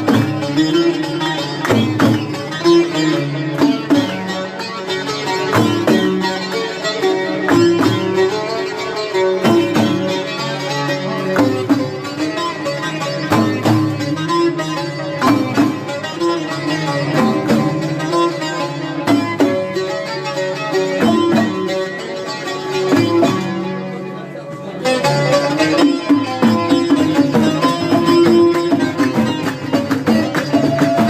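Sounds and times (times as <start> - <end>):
plucked string instrument music: 0.0 - 31.0.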